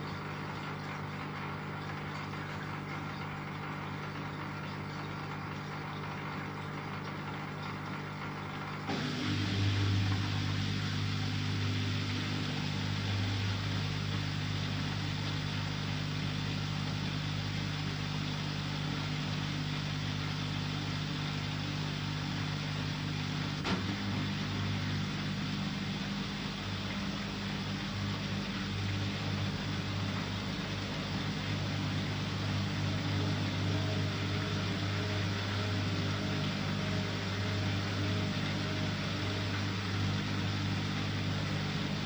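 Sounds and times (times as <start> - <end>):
washing machine motor hum: 0.0 - 42.0.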